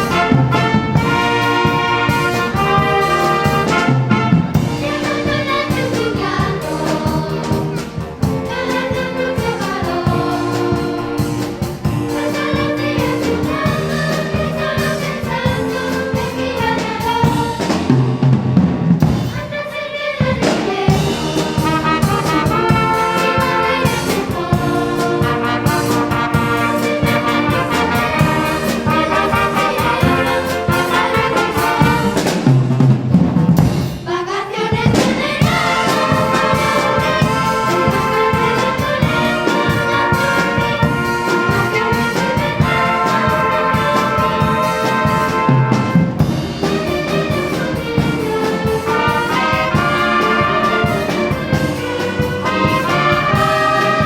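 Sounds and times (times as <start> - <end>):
ensemble music with brass: 0.0 - 18.6, 20.8 - 33.4, 35.0 - 54.0.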